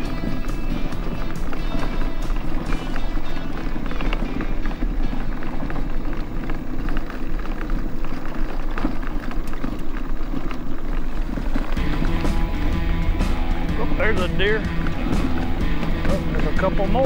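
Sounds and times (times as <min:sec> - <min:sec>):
mobility scooter running: 0:00.0 - 0:17.0
small rattles and knocks: 0:00.0 - 0:17.0.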